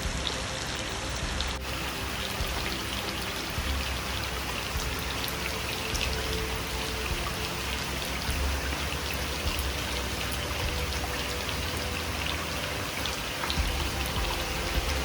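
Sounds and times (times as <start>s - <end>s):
raindrops ticking close by: 0.0s - 15.0s
steady rain hiss: 0.0s - 15.0s.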